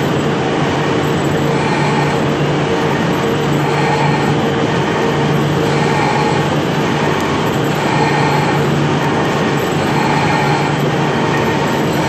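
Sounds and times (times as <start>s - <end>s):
lathe cutting noise: 0.0s - 12.0s
machine hum: 0.0s - 12.0s.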